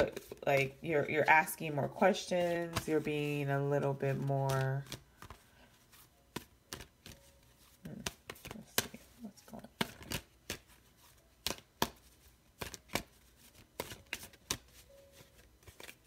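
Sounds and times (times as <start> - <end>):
cards being shuffled: 0.0 - 16.0.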